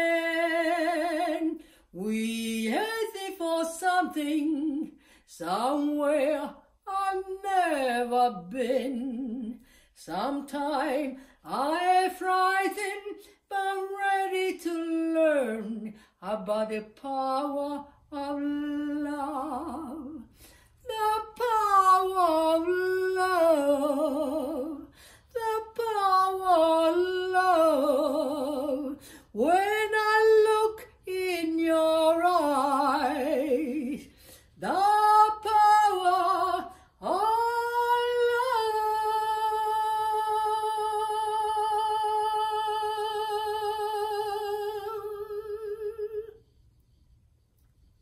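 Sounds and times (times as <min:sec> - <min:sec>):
woman singing: 0:00.0 - 0:46.5.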